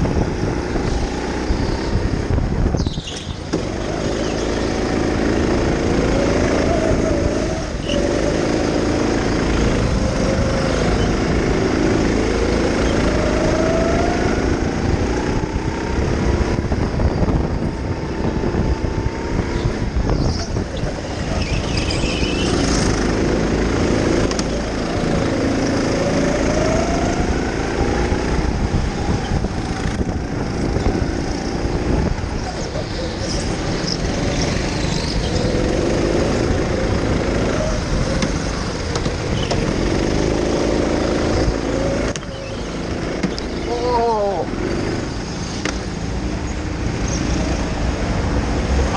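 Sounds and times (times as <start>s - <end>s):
go-kart motor whining: 0.0s - 48.9s
wind rushing on microphone: 0.0s - 48.9s.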